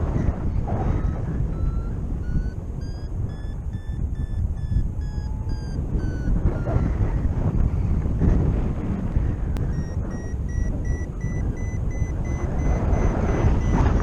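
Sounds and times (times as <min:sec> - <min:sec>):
variometer beeping: 0:00.0 - 0:07.3, 0:09.6 - 0:14.0
wind noise on microphone: 0:00.0 - 0:14.0.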